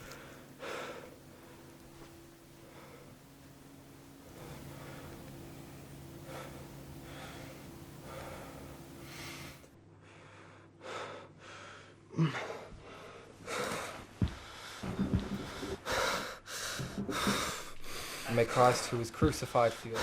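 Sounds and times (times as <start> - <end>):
person breathing heavily: 0.0 - 19.0, 19.6 - 20.0
low steady hum: 0.0 - 20.0.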